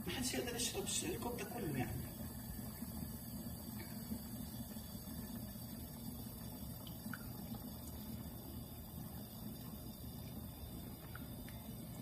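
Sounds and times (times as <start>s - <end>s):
coffee trickling into cup: 0.0s - 12.0s
espresso machine humming: 0.0s - 12.0s.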